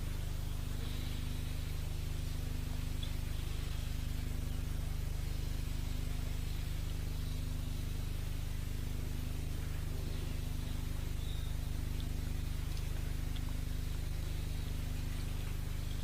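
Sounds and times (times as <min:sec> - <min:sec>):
faint hiss: 0:00.0 - 0:16.0
steady low hum: 0:00.0 - 0:16.0.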